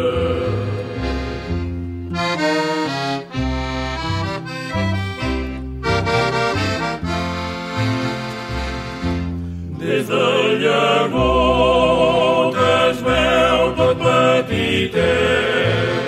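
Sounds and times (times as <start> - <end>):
accordion playing: 0.0 - 16.0.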